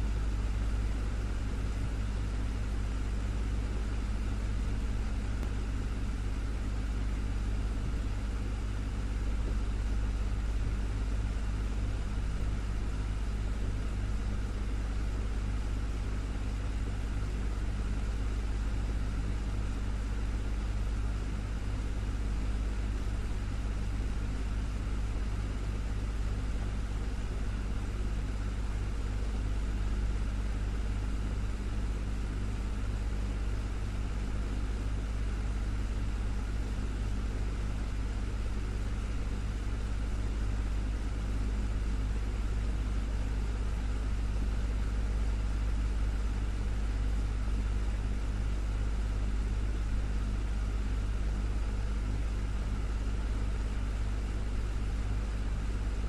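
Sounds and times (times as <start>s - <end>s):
desktop fan humming: 0.0s - 56.0s.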